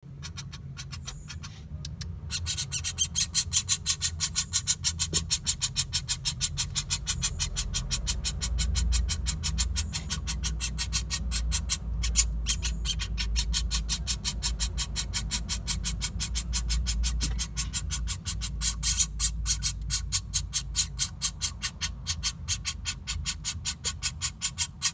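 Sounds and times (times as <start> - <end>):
steady low hum: 0.0 - 24.8
woodpecker sharp call notes: 2.3 - 24.9.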